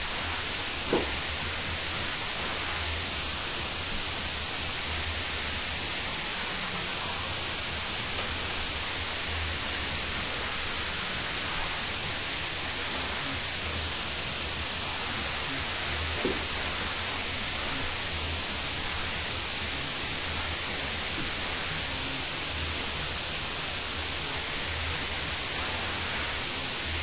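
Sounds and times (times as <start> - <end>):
faint bass pulse of music: 0.0 - 27.0
microphone recording hiss: 0.0 - 27.0.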